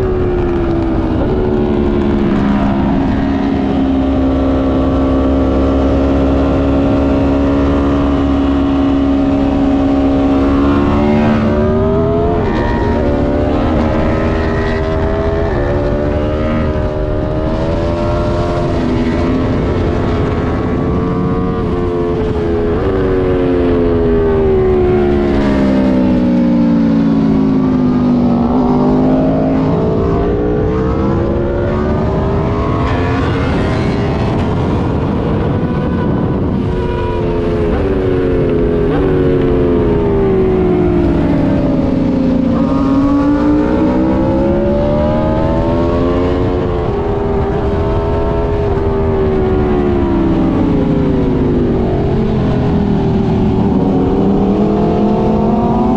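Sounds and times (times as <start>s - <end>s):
motorcycle engine at speed: 0.0s - 55.9s.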